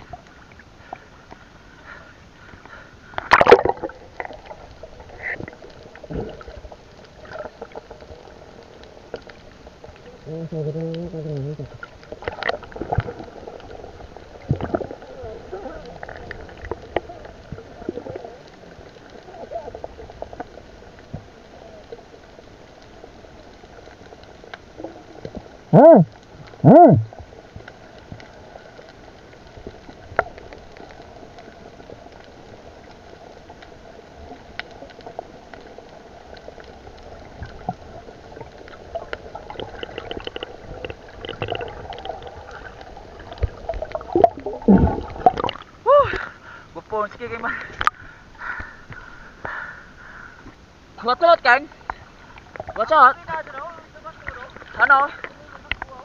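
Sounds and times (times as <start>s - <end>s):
faint underwater clicks: 0.0s - 50.7s, 51.4s - 56.0s
muffled underwater hiss: 0.0s - 56.0s.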